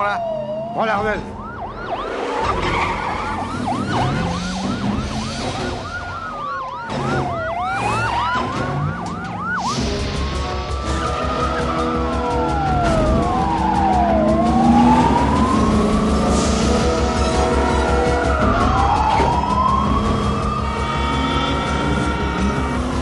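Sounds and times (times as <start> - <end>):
car engine and road noise: 0.0 - 23.0
police siren yelping and wailing: 0.0 - 23.0
second siren wailing: 0.0 - 23.0.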